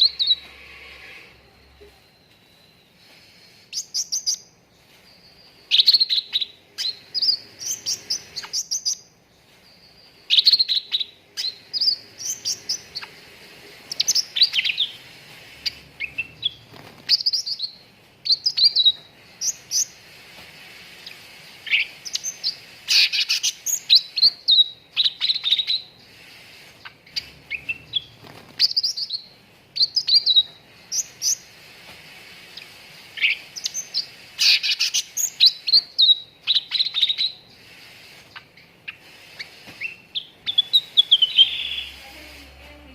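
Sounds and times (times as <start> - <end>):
bird chirping: 0.0 - 42.9
faint steady hiss: 0.0 - 42.9.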